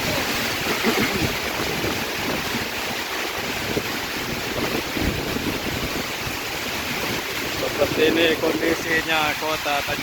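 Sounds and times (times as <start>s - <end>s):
heavy rain: 0.0s - 10.0s
wind buffeting microphone: 0.0s - 10.0s.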